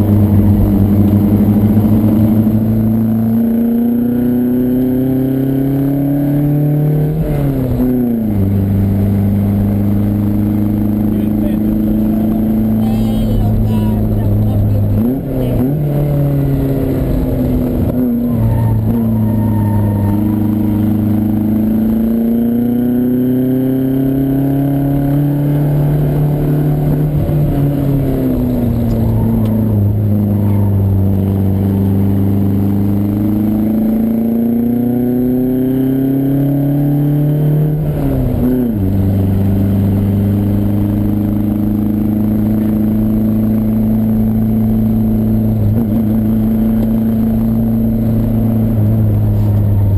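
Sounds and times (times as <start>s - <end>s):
car engine under load: 0.0s - 49.9s.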